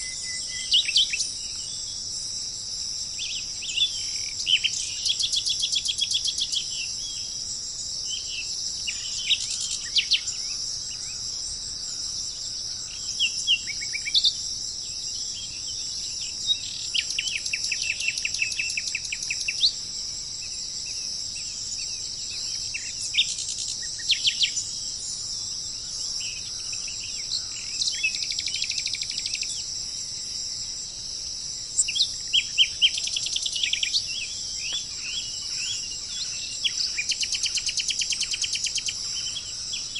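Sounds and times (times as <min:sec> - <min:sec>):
high-pitched insect chorus: 0:00.0 - 0:39.9
songbirds chirping and trilling: 0:00.0 - 0:39.9.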